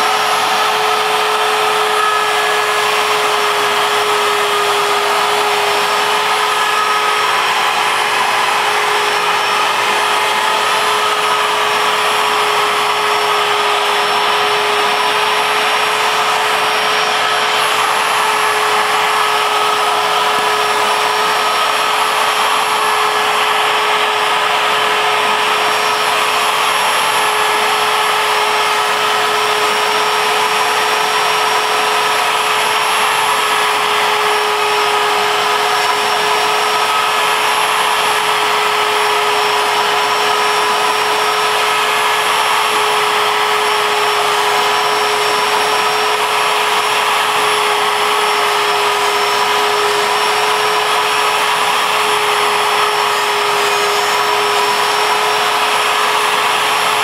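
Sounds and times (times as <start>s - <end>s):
router spindle cutting wood: 0.0s - 57.0s
shop vacuum running: 0.0s - 57.0s.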